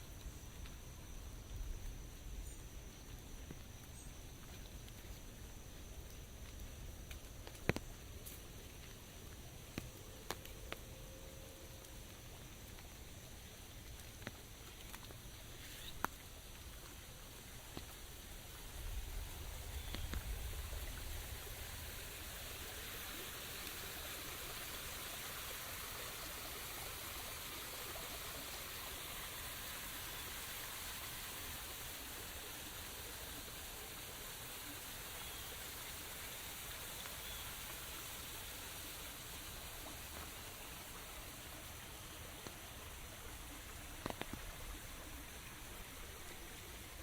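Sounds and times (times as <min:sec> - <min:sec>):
rain falling through foliage: 0:00.0 - 0:47.0.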